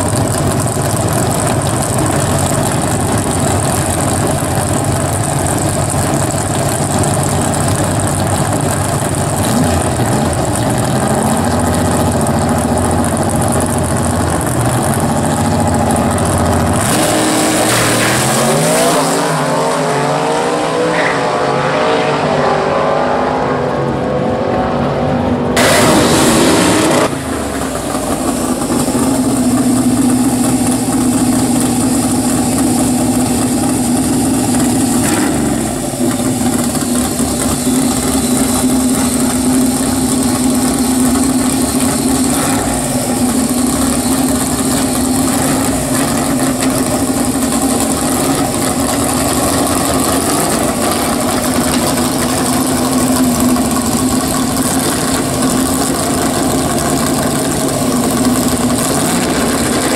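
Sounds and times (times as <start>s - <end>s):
race car engines idling: 0.0s - 20.2s, 25.2s - 59.9s
loud engine and tyre burnout: 0.0s - 59.9s
engines revving through gears: 1.6s - 59.9s.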